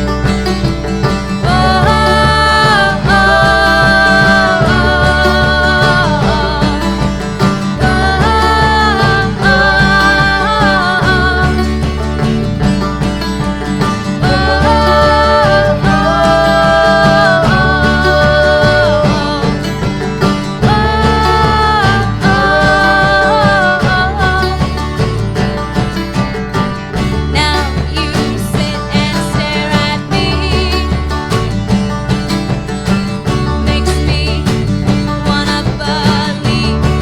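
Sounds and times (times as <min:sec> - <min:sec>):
plucked guitar and banjo: 0:00.0 - 0:37.0
steady bass line: 0:00.0 - 0:37.0.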